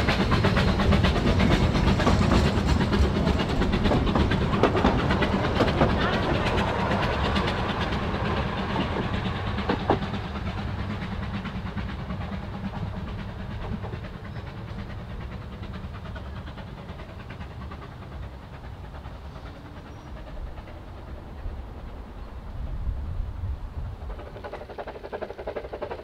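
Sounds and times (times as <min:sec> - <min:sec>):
train wheels clicking over rail joints: 0:00.0 - 0:26.0.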